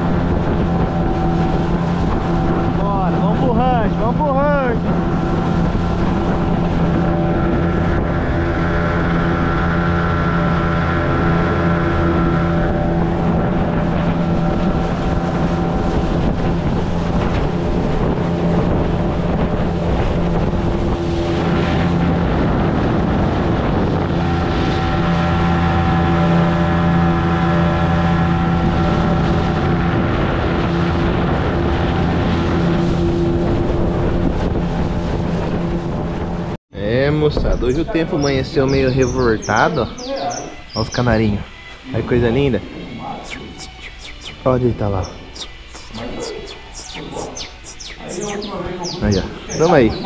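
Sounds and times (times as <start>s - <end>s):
boat motor running: 0.0s - 50.0s
wind buffeting microphone: 0.0s - 50.0s.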